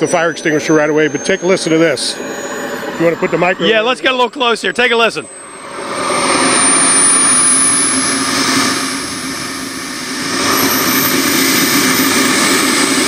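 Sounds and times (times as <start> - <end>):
model jet turbine roaring: 0.0 - 13.0.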